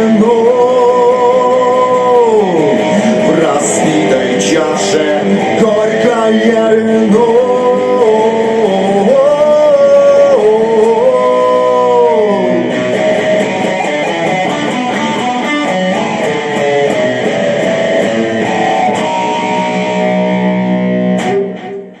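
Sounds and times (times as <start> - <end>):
electric guitar playing: 0.0 - 22.0.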